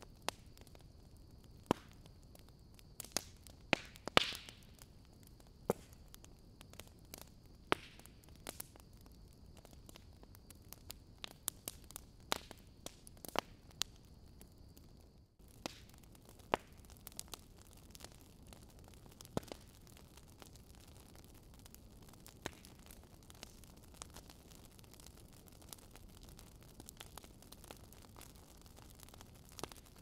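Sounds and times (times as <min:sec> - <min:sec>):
crackle and pops: 0:00.0 - 0:30.0.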